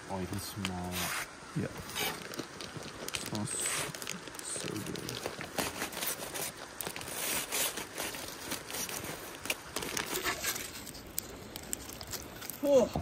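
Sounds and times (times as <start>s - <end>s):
foil crinkling: 0.3s - 13.0s.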